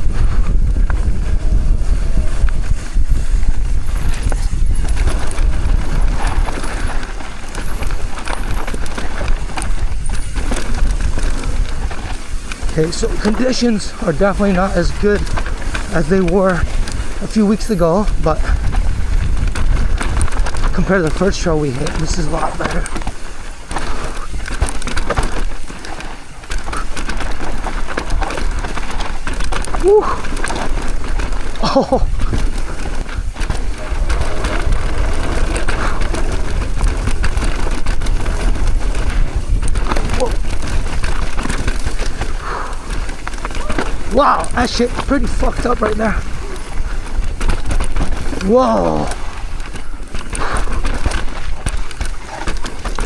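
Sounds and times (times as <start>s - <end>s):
bike clattering and knocking: 0.0s - 53.0s
tires on dirt: 0.0s - 53.0s
wind rumbling on microphone: 0.0s - 53.0s.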